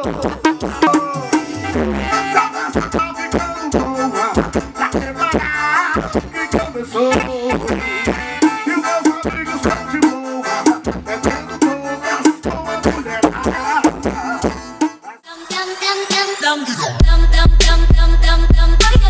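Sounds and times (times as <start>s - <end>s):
music with fast drum beat: 0.0s - 16.4s, 17.0s - 19.0s.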